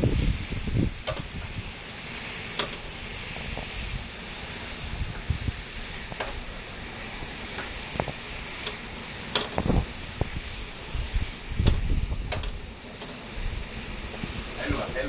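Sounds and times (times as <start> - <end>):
heavy rain hissing: 0.0 - 15.0
wind rumbling on microphone: 0.0 - 15.0.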